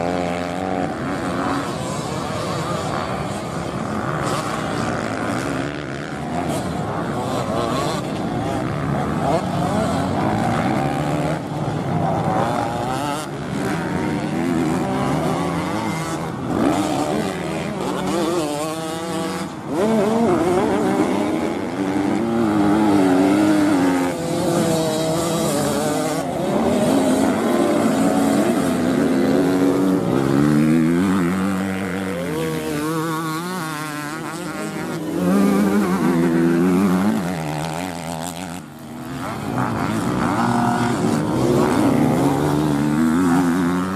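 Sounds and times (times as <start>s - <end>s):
motocross bike engines revving: 0.0s - 43.9s.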